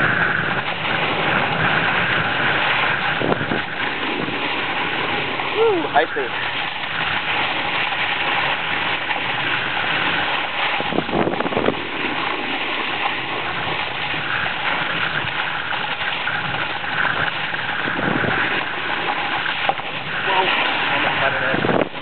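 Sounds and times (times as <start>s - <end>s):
snowboard scraping over snow: 0.0s - 22.0s.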